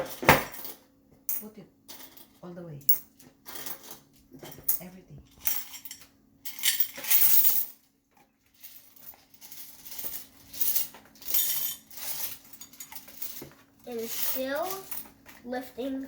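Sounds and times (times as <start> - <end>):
coins clinking: 0.0 - 7.8, 8.6 - 15.2.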